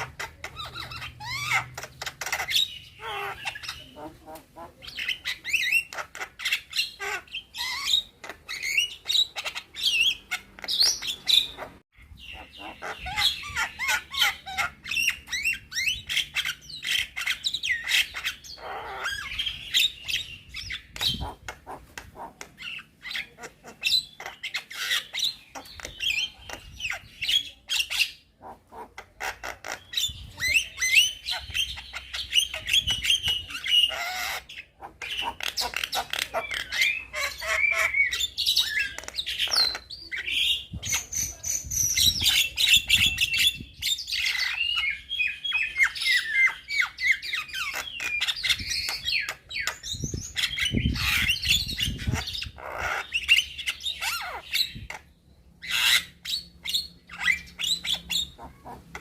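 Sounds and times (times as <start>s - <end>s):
myna bird singing: 0.0s - 59.0s.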